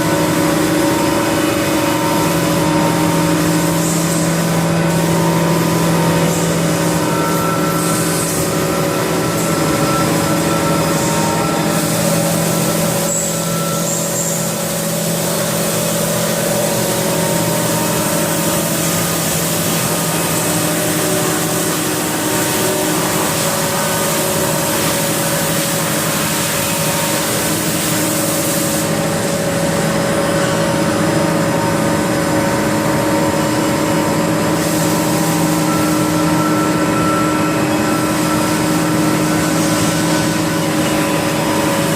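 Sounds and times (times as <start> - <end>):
machining center humming: 0.0 - 41.9.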